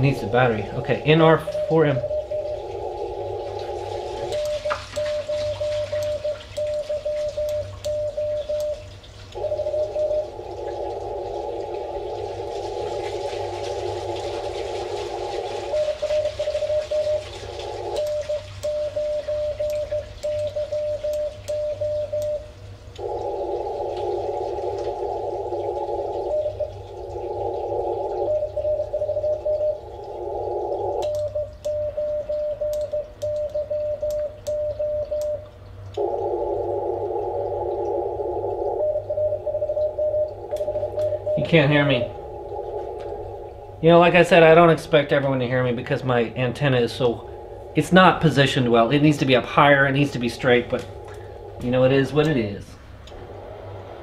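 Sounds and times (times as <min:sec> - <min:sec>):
radio hiss: 0:00.0 - 0:07.5, 0:09.4 - 0:32.0, 0:36.0 - 0:54.0
morse code beeping: 0:00.0 - 0:36.5, 0:37.9 - 0:52.4.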